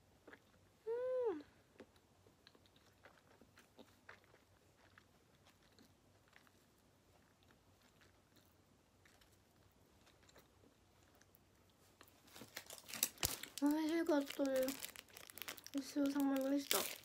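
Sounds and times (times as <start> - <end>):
person chewing food: 0.1 - 0.8, 1.4 - 17.0.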